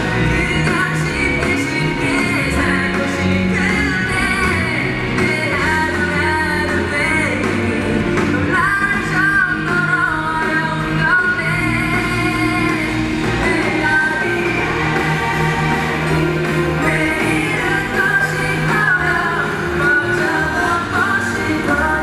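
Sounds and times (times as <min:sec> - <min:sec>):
live band playing pop-rock: 0:00.0 - 0:22.0
person singing: 0:00.0 - 0:22.0.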